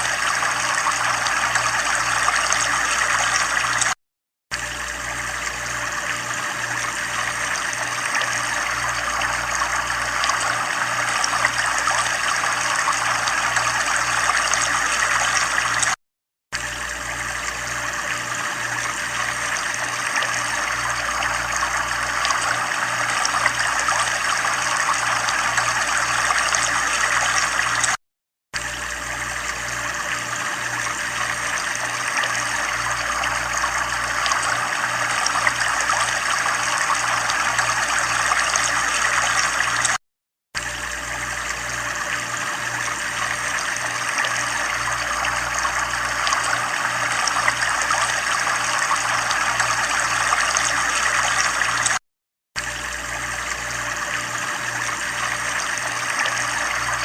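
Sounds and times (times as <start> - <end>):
water trickling and splashing: 0.0 - 16.0, 16.6 - 28.0, 28.6 - 40.0, 40.6 - 52.0, 52.6 - 57.0.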